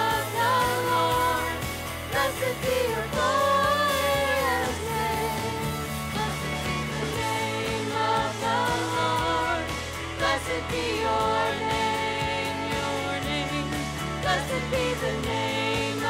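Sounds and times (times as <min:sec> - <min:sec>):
group singing a praise song: 0:00.0 - 0:16.0
instrumental accompaniment with beat: 0:00.0 - 0:16.0.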